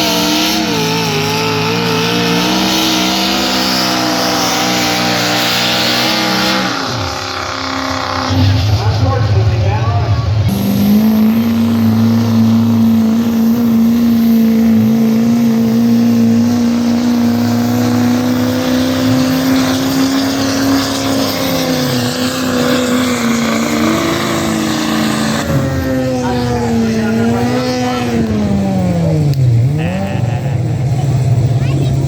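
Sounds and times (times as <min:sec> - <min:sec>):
truck engine at full throttle: 0:00.0 - 0:32.0.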